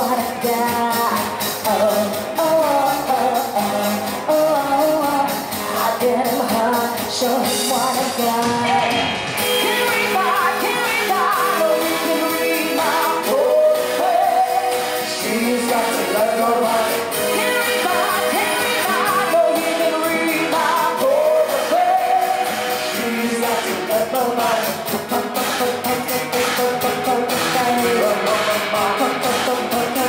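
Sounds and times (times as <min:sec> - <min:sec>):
drums: 0:00.0 - 0:30.0
electric guitar: 0:00.0 - 0:30.0
person singing: 0:00.0 - 0:30.0.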